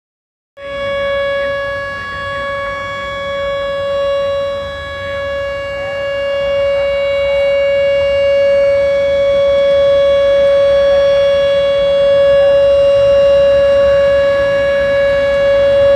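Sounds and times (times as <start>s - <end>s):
civil defense siren wailing: 0.6s - 15.9s.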